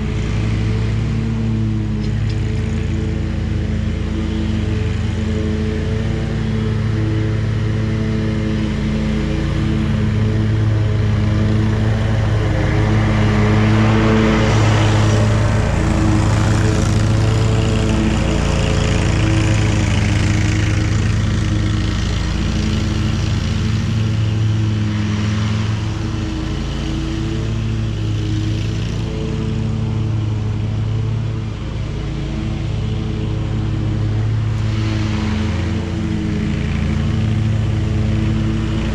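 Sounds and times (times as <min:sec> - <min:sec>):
mower blades rushing: 0:00.0 - 0:38.9
riding mower engine hum: 0:00.0 - 0:38.9.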